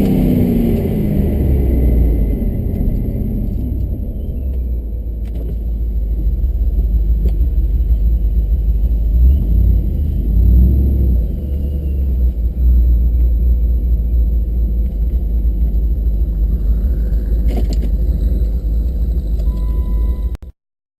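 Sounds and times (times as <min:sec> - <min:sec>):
low vehicle rumble: 0:00.0 - 0:20.5.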